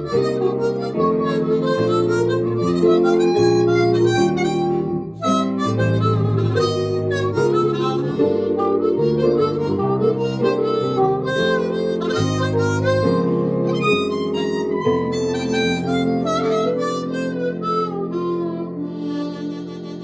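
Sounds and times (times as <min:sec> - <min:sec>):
harmonica blues melody: 0:00.0 - 0:20.0.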